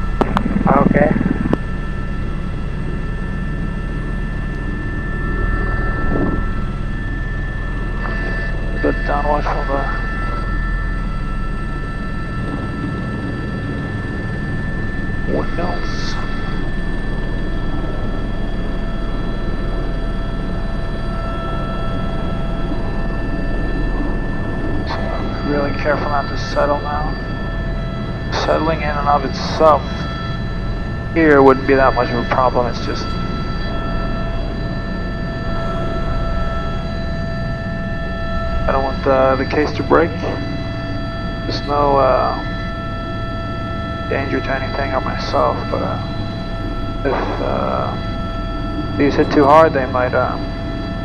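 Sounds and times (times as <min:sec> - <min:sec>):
helicopter rotor beating: 0:00.0 - 0:51.0
helicopter turbine whine: 0:00.0 - 0:51.0.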